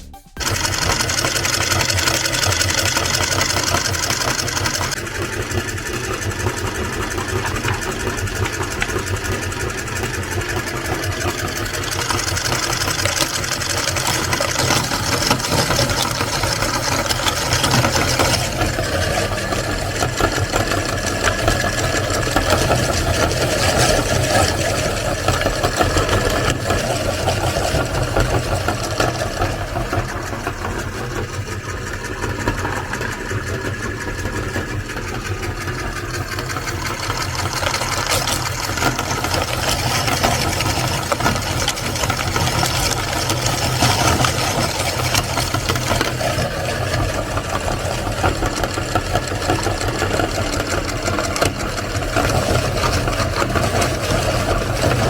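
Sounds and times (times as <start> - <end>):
crackle of grinding cones: 0.4 - 55.0
meat grinder motor hum: 0.4 - 55.0.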